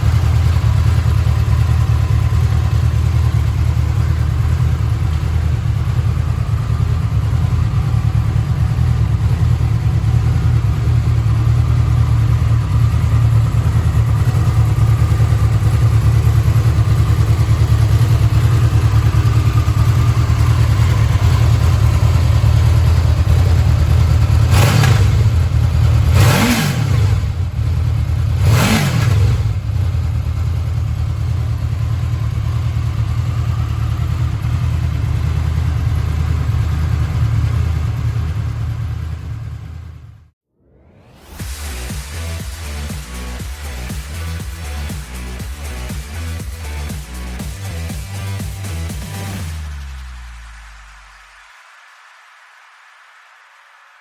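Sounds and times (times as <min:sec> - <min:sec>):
motorcycle engine idling and revving: 0:00.0 - 0:40.4, 0:41.0 - 0:51.2.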